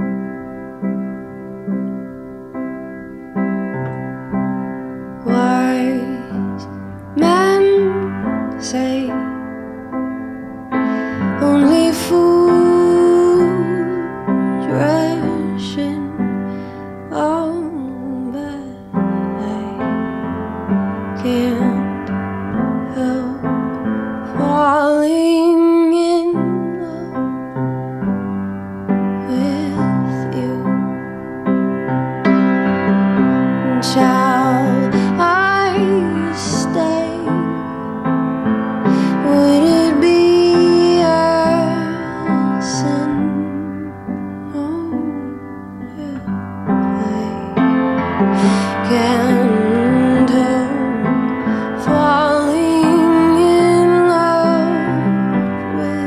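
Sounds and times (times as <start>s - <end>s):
slow piano song: 0.0s - 56.0s
person singing: 5.2s - 9.5s, 10.8s - 27.4s, 29.2s - 31.2s, 32.4s - 56.0s.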